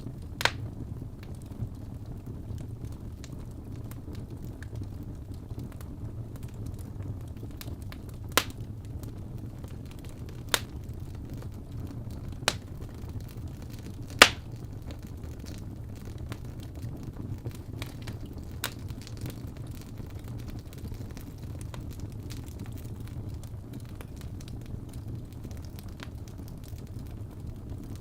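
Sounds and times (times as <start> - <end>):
fire crackling: 0.0 - 28.0
sharp fire pops: 0.0 - 28.0.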